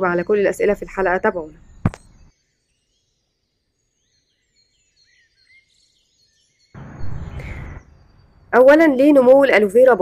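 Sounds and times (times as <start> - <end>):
faint birds chirping: 0.0 - 10.0
outdoor background noise: 0.0 - 10.0.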